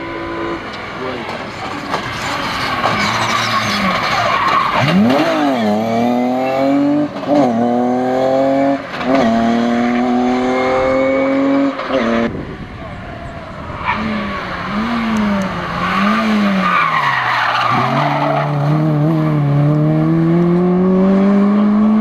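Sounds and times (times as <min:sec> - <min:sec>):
rally car engine revving: 0:00.0 - 0:22.0
tyres skidding: 0:00.0 - 0:22.0.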